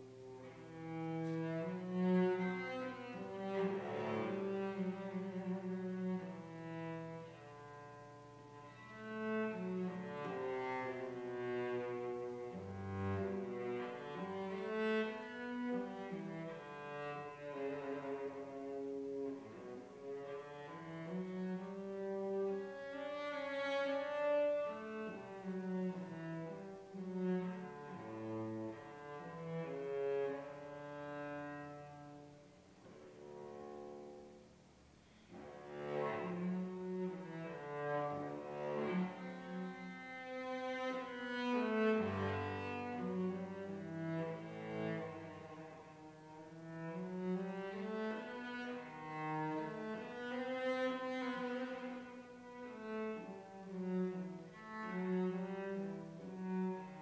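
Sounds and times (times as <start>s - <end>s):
bowed cello melody: 0.0s - 57.0s.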